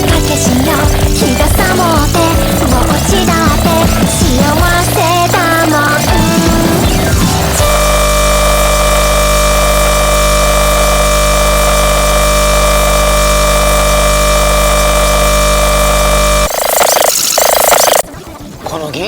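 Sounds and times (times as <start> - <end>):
harsh electronic noise with held tones: 0.0 - 19.0.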